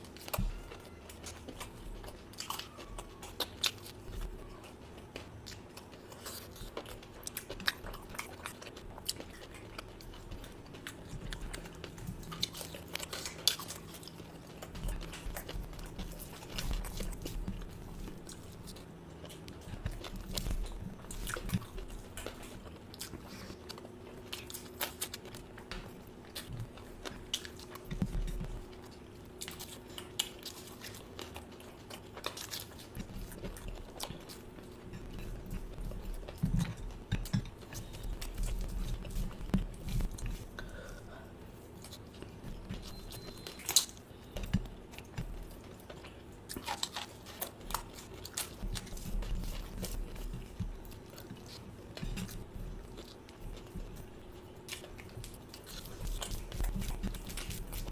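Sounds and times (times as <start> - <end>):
faint steady hum: 0.0 - 57.9
person chewing and crunching: 0.0 - 57.9.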